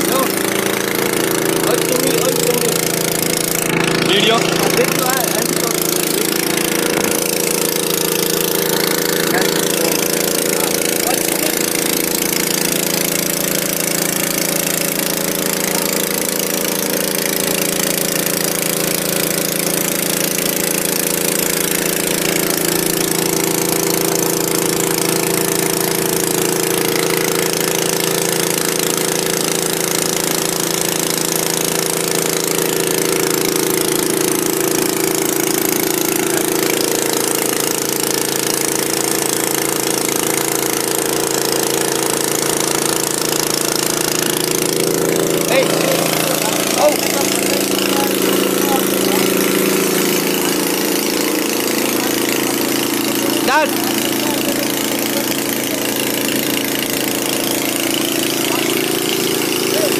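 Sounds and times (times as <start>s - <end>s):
small engine humming: 0.0s - 59.9s.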